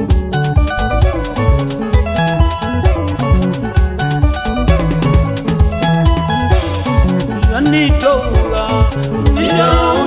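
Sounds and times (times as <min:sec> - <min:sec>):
bass: 0:00.0 - 0:10.0
drum beat: 0:00.1 - 0:10.0.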